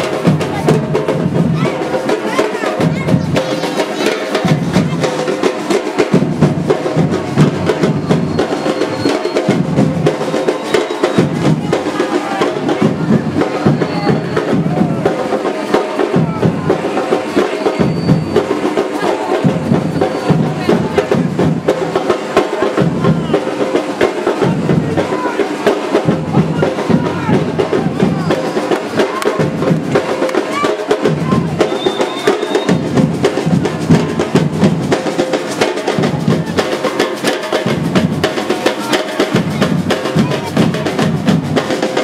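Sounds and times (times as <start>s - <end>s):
crowd voices: 0.0s - 42.0s
drums and percussion: 0.0s - 42.0s.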